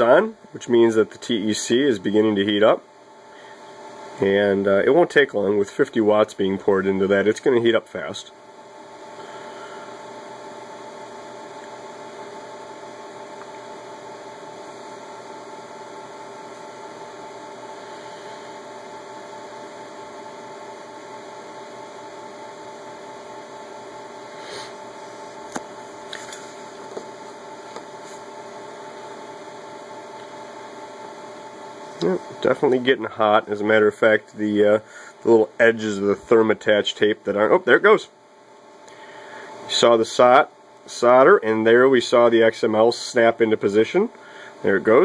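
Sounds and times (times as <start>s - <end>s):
electrical hum and hiss: 0.0s - 45.0s.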